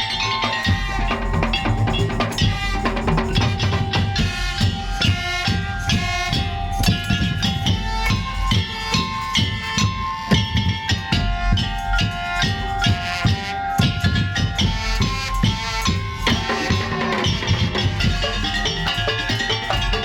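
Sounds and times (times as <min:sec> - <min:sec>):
drums beating quick rhythm: 0:00.0 - 0:20.0
melody of held pitched tones: 0:00.0 - 0:20.0.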